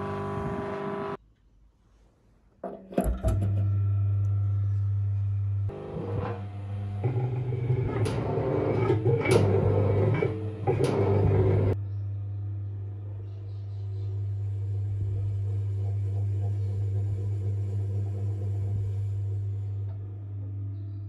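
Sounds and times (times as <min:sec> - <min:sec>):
pottery wheel motor humming: 0:00.0 - 0:01.2, 0:03.1 - 0:21.0
cone drive rumbling: 0:02.6 - 0:21.0.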